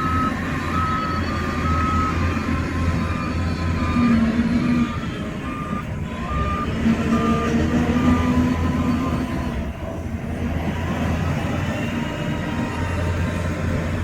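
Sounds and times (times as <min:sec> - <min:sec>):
diesel engine rumble: 0:00.0 - 0:14.0.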